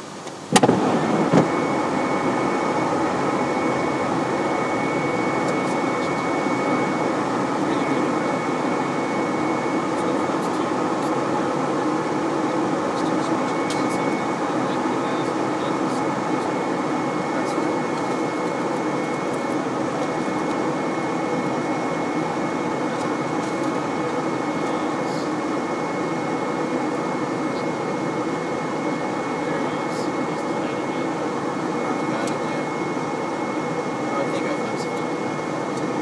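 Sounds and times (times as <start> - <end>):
aircraft engine and airflow: 0.0 - 36.0
high steady whine: 0.0 - 36.0.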